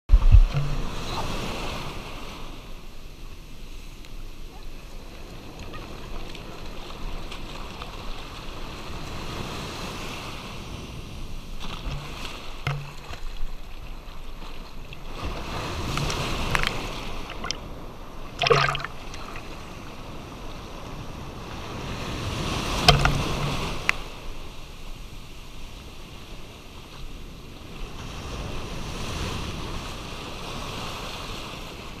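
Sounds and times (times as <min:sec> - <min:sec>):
surf washing at the waterline: 0:00.1 - 0:32.0
close water splashes: 0:00.3 - 0:26.6.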